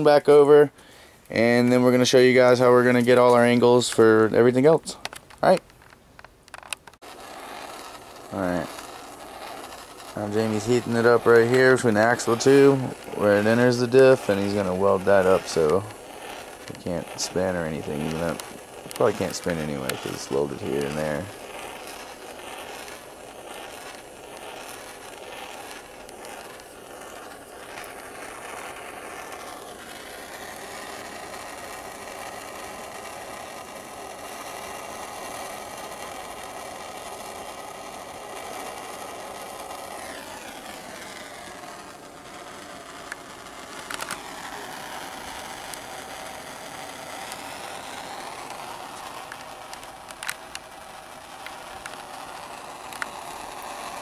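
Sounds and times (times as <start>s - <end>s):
propane torch flame hissing: 0.0s - 5.9s, 6.5s - 54.0s.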